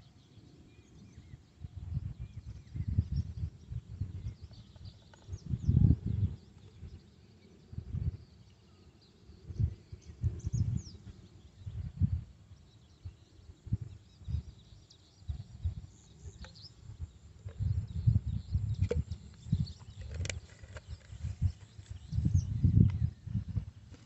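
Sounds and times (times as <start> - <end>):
faint bird chirps: 0.0 - 23.6
wind rumbling on microphone: 0.0 - 24.0.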